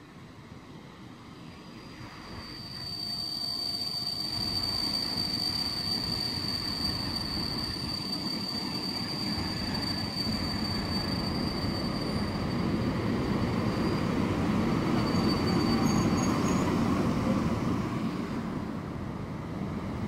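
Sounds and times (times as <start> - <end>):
train rumble: 0.0 - 20.0
steady high-pitched squeal: 0.2 - 20.0.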